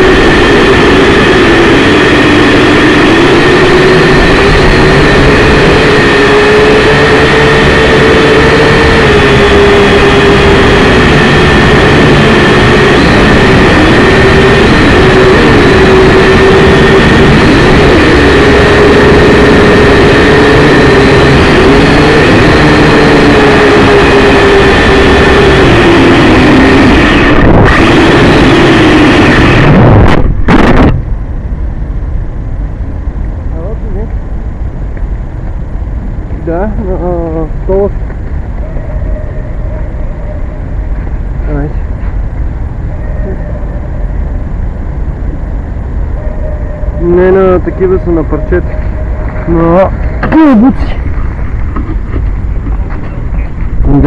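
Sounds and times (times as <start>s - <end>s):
quadcopter motors whining: 0.0s - 31.1s, 36.4s - 54.0s.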